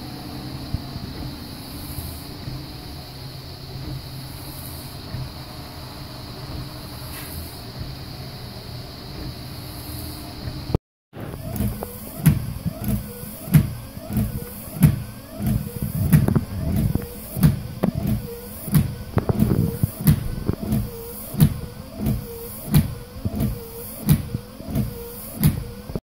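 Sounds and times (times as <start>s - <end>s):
wiper blades squeaking: 0.0s - 26.0s
wiper motor humming: 0.0s - 26.0s.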